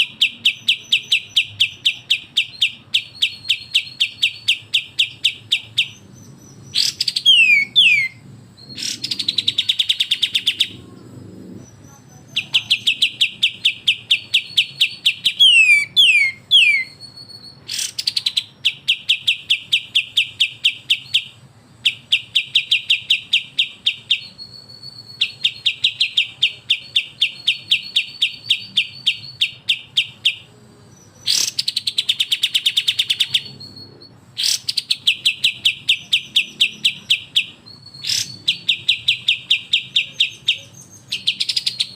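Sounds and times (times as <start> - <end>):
birds singing sharp high chips: 0.0 - 10.9, 11.7 - 41.9
downward-slurred bird whistles: 0.2 - 10.8, 12.5 - 21.3, 21.9 - 41.9.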